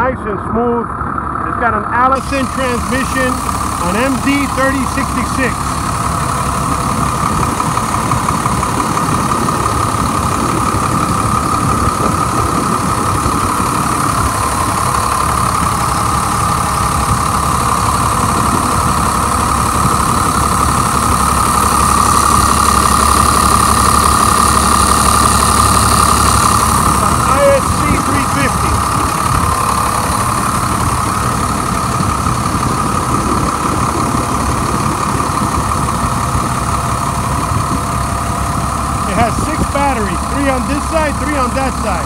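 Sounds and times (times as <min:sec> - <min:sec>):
diesel engine idling: 0:00.0 - 0:42.0
steady whine: 0:00.0 - 0:42.0.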